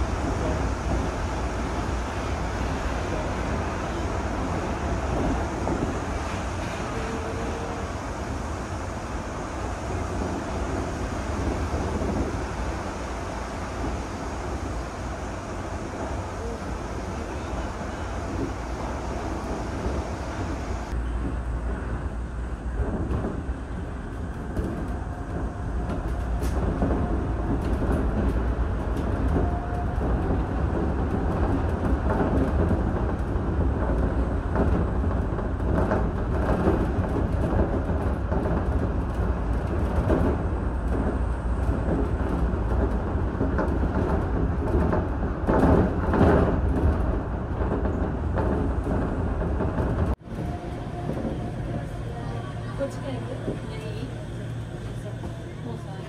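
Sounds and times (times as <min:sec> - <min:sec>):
monorail car rumbling: 0:00.0 - 0:56.0.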